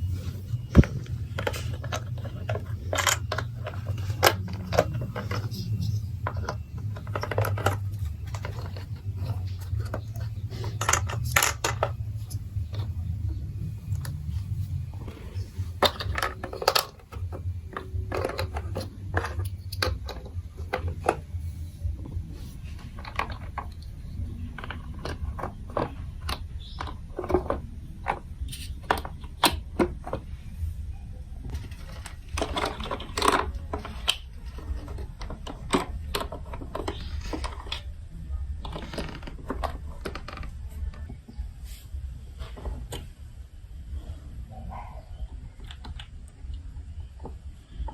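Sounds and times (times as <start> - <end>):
low steady hum: 0.0 - 47.9
plastic toy blocks clicking: 0.4 - 13.1, 15.0 - 21.3, 22.4 - 30.4, 31.5 - 41.4, 45.5 - 47.9.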